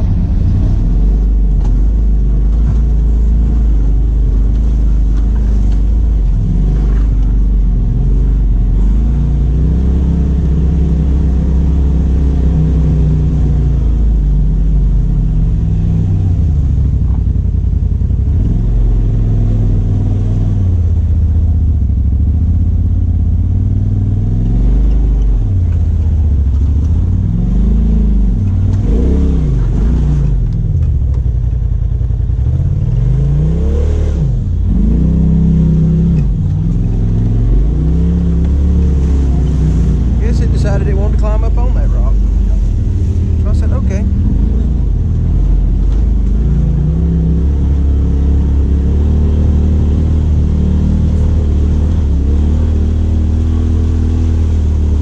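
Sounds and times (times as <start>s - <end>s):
utility vehicle engine revving: 0.0s - 55.0s.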